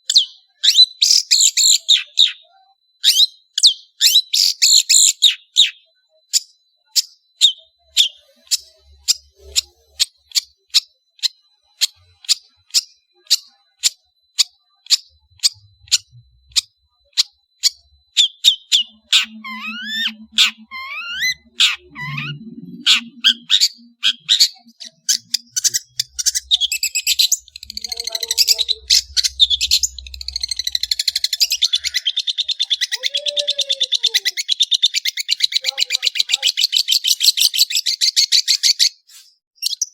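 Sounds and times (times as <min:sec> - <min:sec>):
shrike singing: 0:03.0 - 0:39.0.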